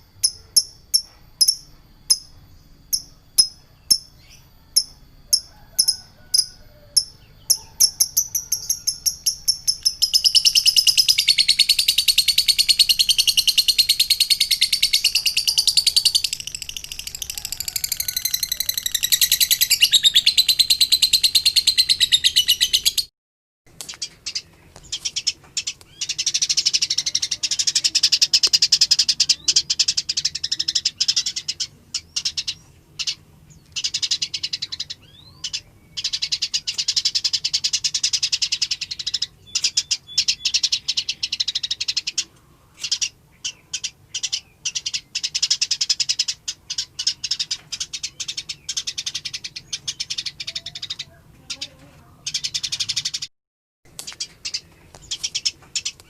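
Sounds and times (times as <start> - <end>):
songbird chirps and trills: 0.0 - 23.1, 23.7 - 53.3, 53.9 - 56.0.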